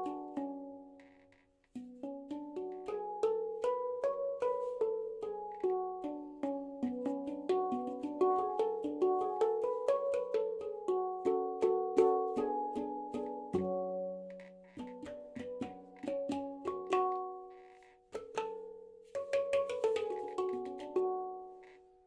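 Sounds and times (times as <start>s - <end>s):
handpan notes ringing: 0.0s - 1.1s, 1.7s - 22.0s.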